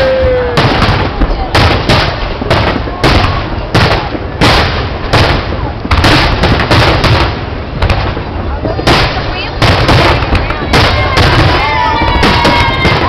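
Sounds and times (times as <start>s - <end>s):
rumble of explosions: 0.0s - 13.0s.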